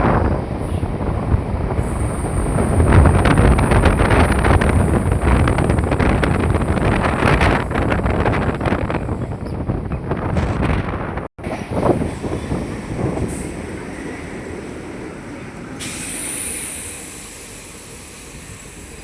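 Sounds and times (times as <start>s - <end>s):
train rumble and wheel noise: 0.0s - 19.0s.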